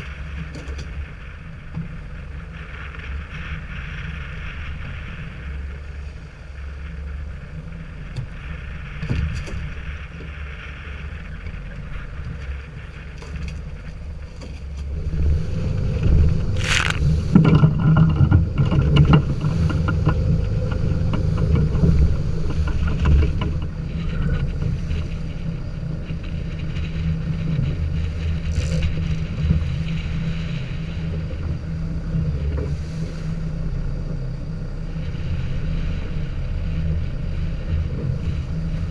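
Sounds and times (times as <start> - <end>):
boat motor running: 0.0 - 38.9
water noise: 0.0 - 38.9
wind: 0.0 - 38.9.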